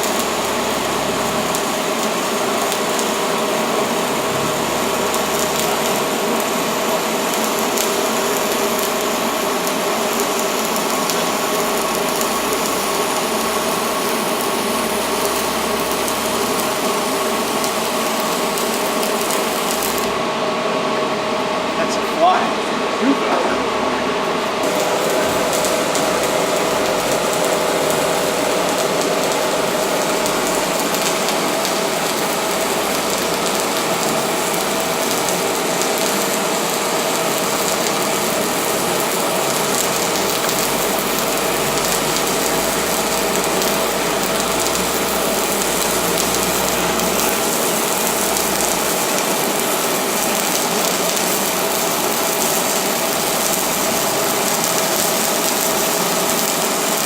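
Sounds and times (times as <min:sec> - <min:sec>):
welding arc crackling hiss: 0:00.0 - 0:57.0.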